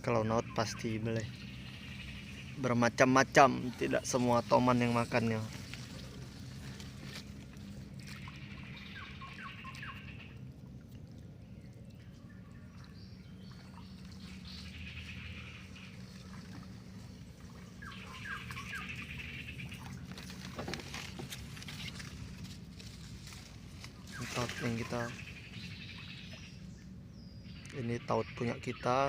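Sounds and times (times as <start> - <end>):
bird calls: 0.0 - 29.0
steady low hum: 0.0 - 29.0.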